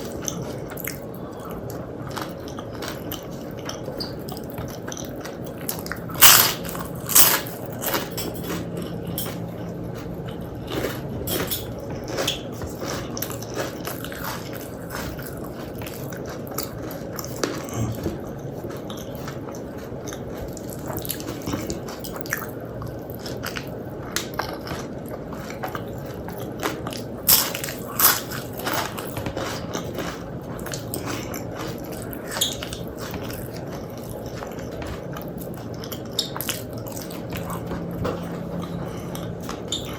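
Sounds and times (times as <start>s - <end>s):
chewing and wet mouth sounds: 0.0s - 39.9s.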